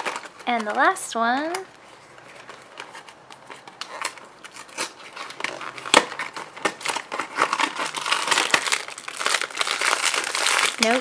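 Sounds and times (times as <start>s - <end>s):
cardboard packaging crinkling: 0.0s - 11.0s.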